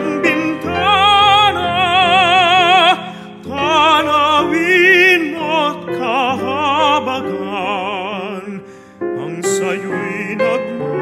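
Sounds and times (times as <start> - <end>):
piano and flute accompaniment: 0.0 - 11.0
tenor singing with vibrato: 0.0 - 11.0.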